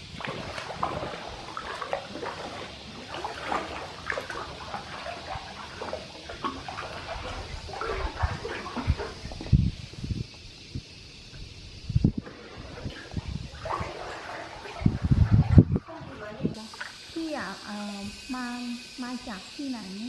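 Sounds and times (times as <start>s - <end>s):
water sloshing and gurgling: 0.0s - 20.0s.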